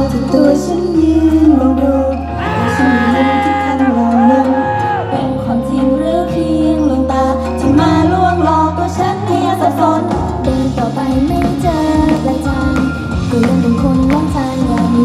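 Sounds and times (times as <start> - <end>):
pop song with female vocals: 0.0 - 15.0.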